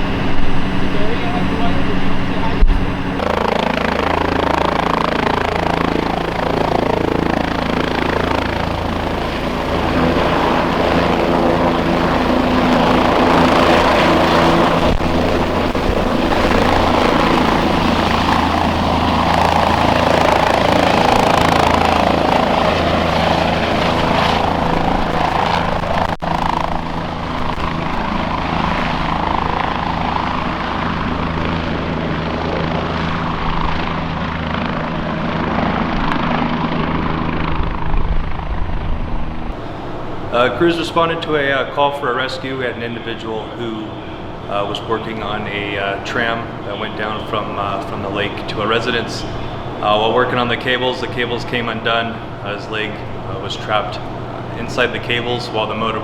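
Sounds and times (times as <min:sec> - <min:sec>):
helicopter rotor drone: 0:00.0 - 0:56.0.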